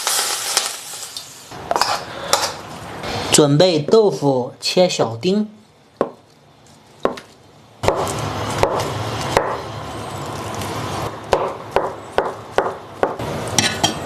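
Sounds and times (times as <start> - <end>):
steady background noise: 0.1 - 14.0.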